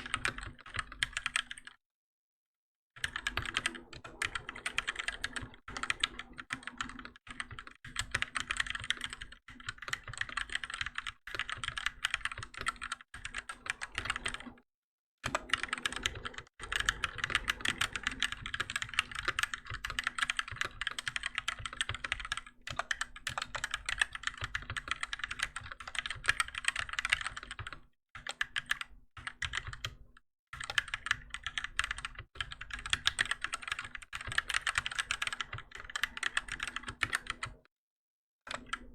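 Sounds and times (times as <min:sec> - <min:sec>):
mechanical keyboard typing: 0:00.0 - 0:01.7, 0:03.0 - 0:14.6, 0:15.2 - 0:30.0, 0:30.6 - 0:37.7, 0:38.5 - 0:38.9.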